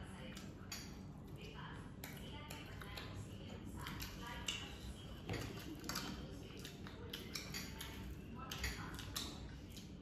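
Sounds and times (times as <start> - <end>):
chewing and lip smacks: 0.2 - 10.0.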